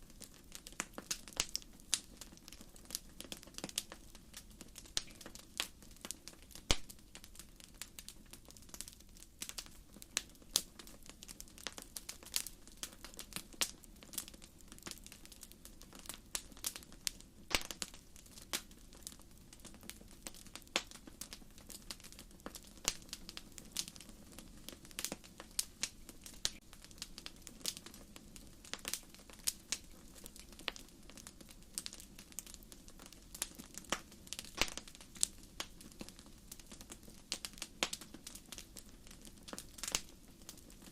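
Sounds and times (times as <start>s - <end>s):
campfire crackling and popping: 0.0s - 40.9s
low rumble of flames: 0.0s - 40.9s.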